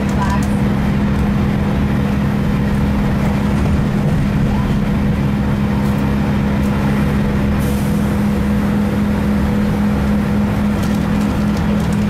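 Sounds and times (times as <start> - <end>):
diesel train engine droning: 0.0 - 12.0.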